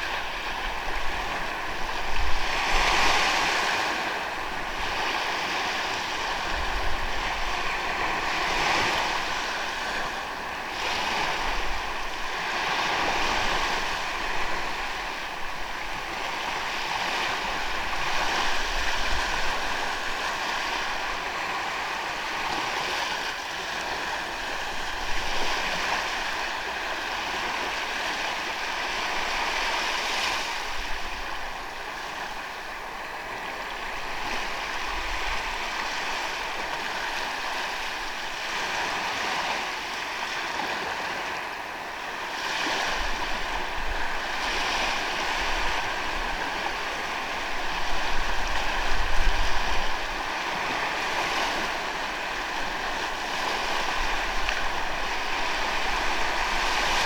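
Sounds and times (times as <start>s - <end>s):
wind rumble on microphone: 0.0s - 41.4s, 42.0s - 57.0s
ocean waves on beach: 0.0s - 57.0s.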